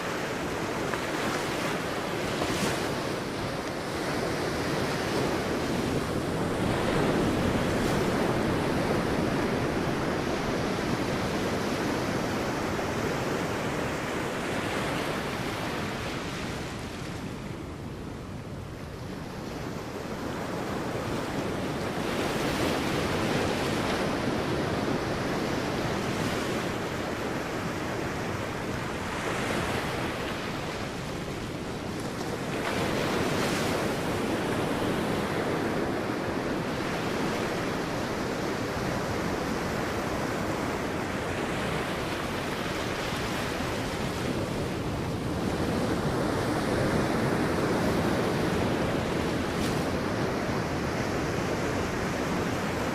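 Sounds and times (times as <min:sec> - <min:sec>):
sea waves breaking on beach: 0:00.0 - 0:52.9.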